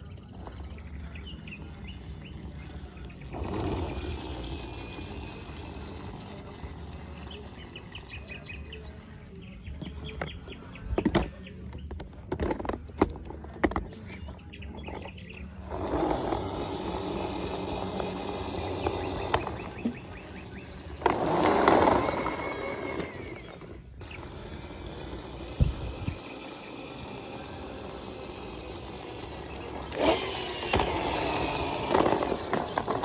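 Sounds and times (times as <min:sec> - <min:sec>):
birds chirping: 0:00.0 - 0:33.0
rolling scraping noise: 0:00.0 - 0:33.0.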